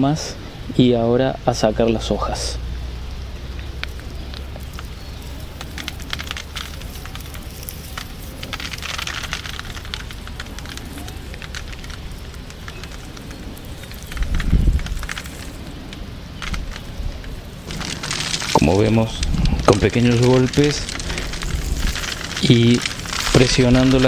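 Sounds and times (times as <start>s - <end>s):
dry leaves crackling and rustling: 3.2s - 24.0s.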